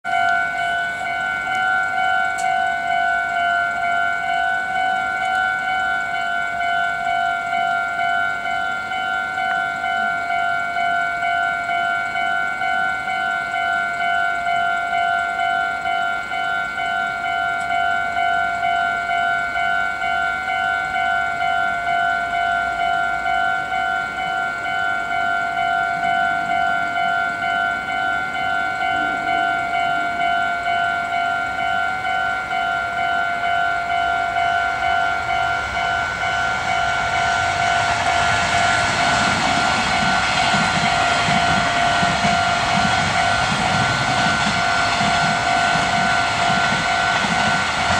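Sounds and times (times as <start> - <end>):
approaching train rush: 0.0 - 47.9
level crossing warning bell: 0.0 - 47.9.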